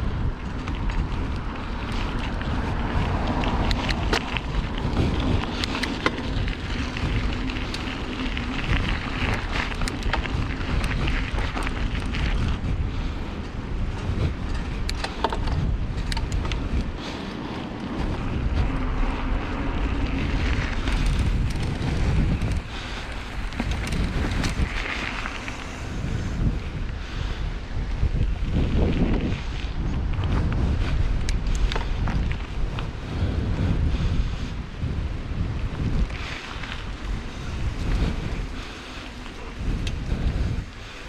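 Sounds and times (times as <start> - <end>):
bike tyres rolling: 0.0 - 41.0
wind on microphone: 0.0 - 41.0.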